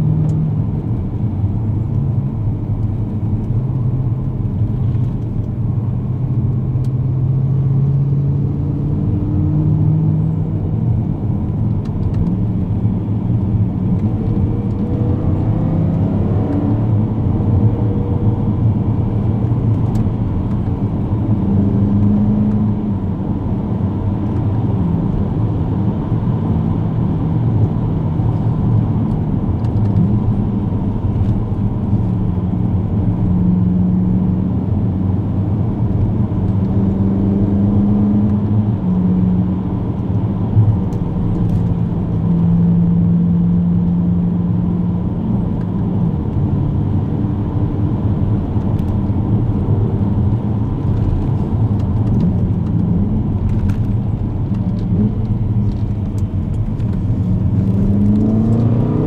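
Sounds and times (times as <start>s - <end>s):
car engine drone from inside cabin: 0.0s - 59.0s.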